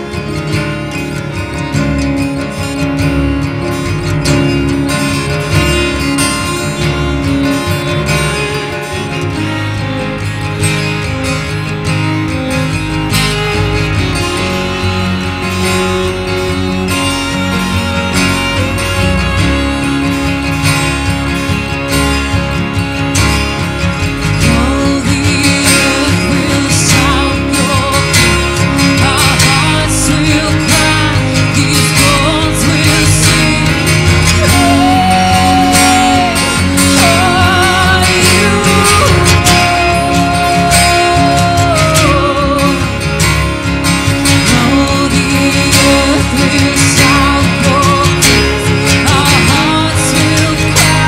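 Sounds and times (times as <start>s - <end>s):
acoustic guitar: 0.0s - 51.0s
electric bass: 0.0s - 51.0s
violin: 0.0s - 51.0s
wavering melody line: 0.0s - 51.0s.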